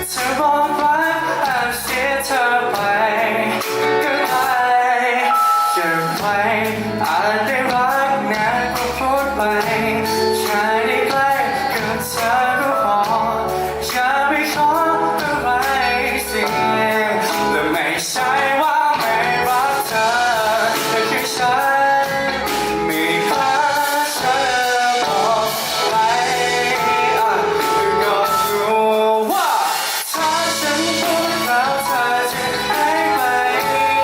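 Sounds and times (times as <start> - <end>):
live pop band with singing: 0.0 - 34.0.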